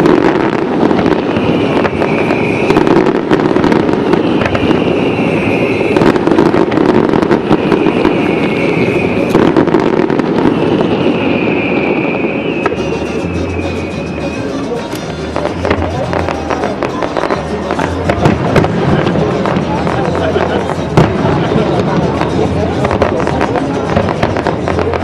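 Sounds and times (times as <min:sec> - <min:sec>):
fireworks bursting and crackling: 0:00.0 - 0:25.0
sharp fireworks bangs: 0:00.0 - 0:25.0.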